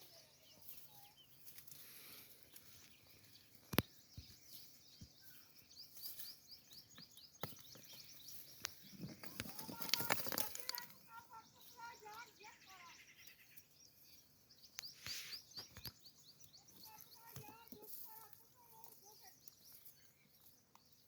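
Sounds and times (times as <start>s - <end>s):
outdoor background noise: 0.0s - 21.0s
small birds chirping: 0.0s - 21.0s.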